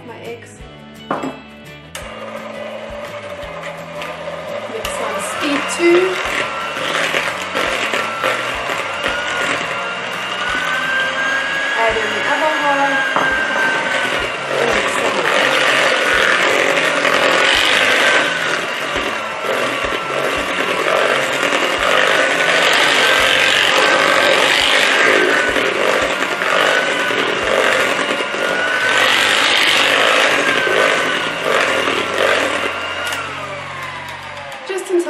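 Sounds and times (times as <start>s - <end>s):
electric hand mixer whine: 0.6s - 35.0s.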